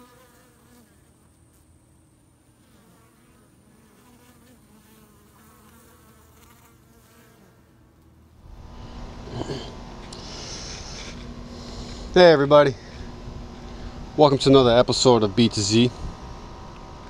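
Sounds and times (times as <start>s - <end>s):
bees buzzing: 2.6s - 7.8s, 8.4s - 17.0s.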